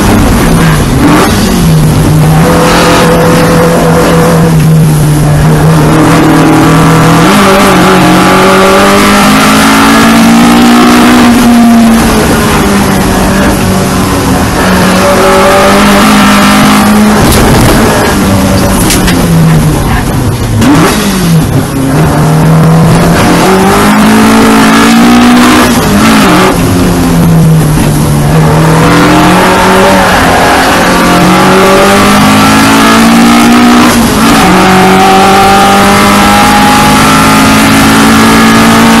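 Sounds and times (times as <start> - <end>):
race car engine revving: 0.0 - 39.0
wind and road noise: 0.0 - 39.0.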